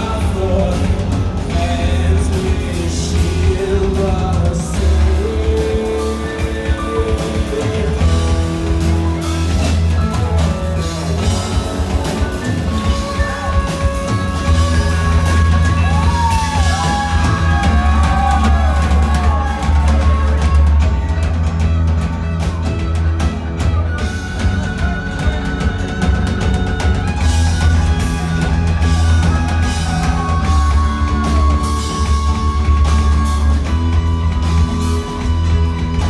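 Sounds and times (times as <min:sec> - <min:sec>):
heavy bass line: 0:00.0 - 0:36.0
rock band playing live: 0:00.0 - 0:36.0.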